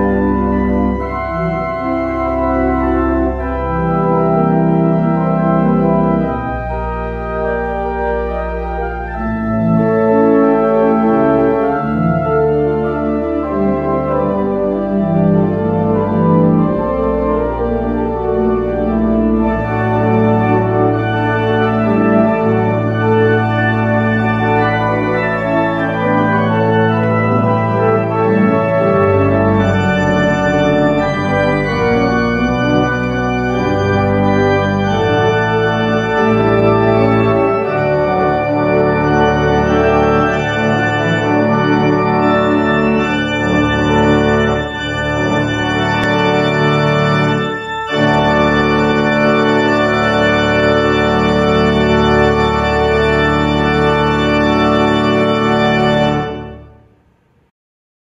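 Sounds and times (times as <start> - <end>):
church organ chords: 0.0 - 57.0.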